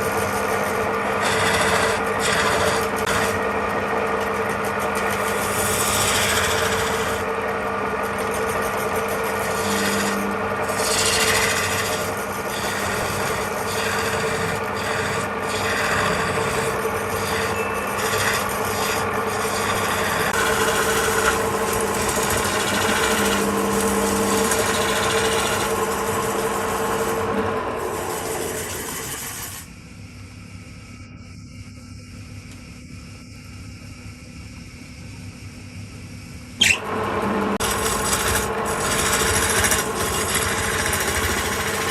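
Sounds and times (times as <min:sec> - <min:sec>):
tool scraping spinning wood: 0:00.0 - 0:29.7, 0:36.6 - 0:41.9
wood lathe motor hum: 0:00.0 - 0:29.7, 0:36.6 - 0:41.9.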